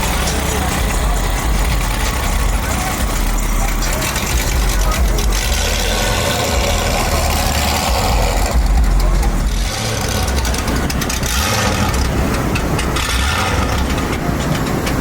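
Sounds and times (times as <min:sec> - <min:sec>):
people talking: 0:00.0 - 0:15.0
vehicle engine idling: 0:00.0 - 0:15.0.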